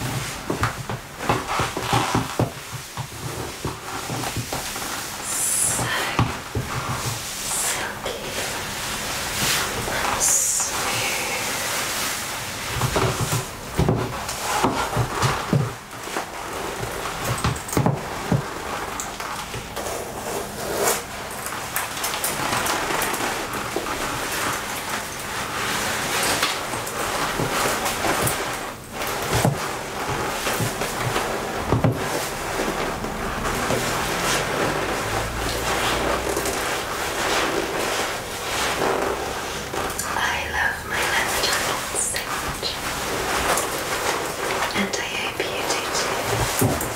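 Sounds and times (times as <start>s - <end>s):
leather jacket rustling: 0.0s - 40.0s, 40.6s - 44.8s
steady hiss: 0.0s - 46.9s.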